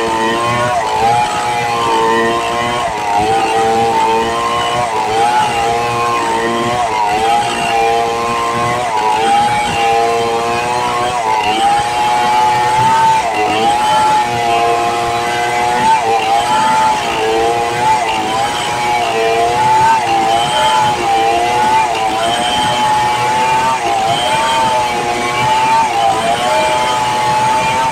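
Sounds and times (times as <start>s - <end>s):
chainsaw cutting log: 0.0s - 27.9s.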